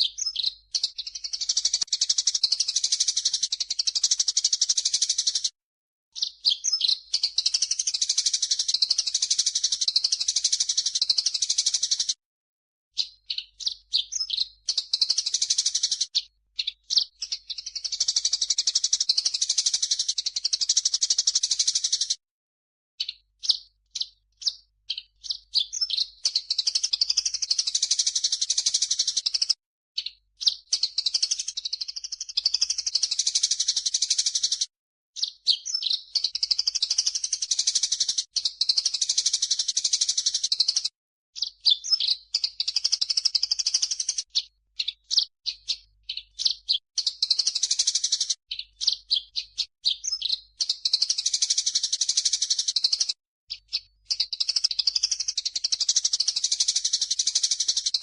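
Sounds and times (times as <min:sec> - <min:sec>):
sparrow calls: 0:00.0 - 0:05.5, 0:06.2 - 0:12.1, 0:13.0 - 0:22.2, 0:23.0 - 0:34.6, 0:35.2 - 0:58.0.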